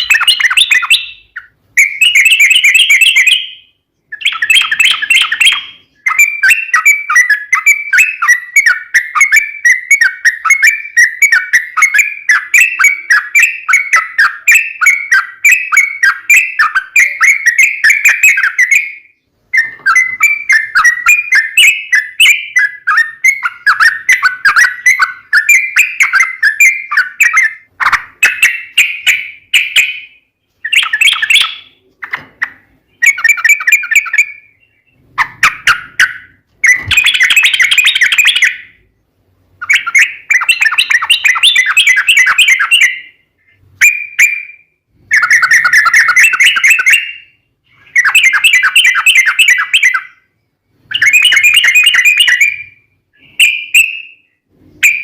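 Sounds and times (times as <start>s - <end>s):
bird singing chattering notes: 0.0s - 38.9s, 39.6s - 50.3s, 50.9s - 54.2s.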